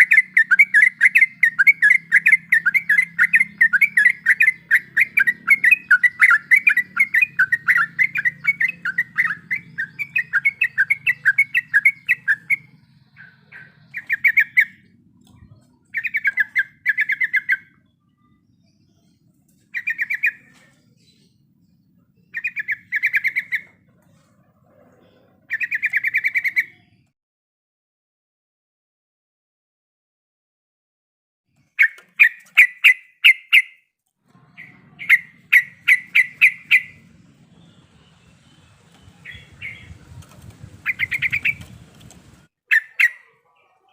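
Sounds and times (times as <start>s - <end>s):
bird chattering and trilling: 0.0s - 27.0s, 31.8s - 33.8s, 34.4s - 43.9s.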